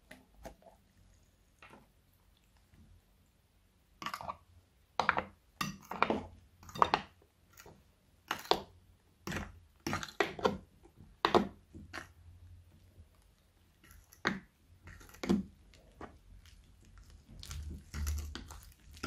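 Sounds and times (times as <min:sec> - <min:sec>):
foam squishing in a bowl: 0:00.0 - 0:19.0.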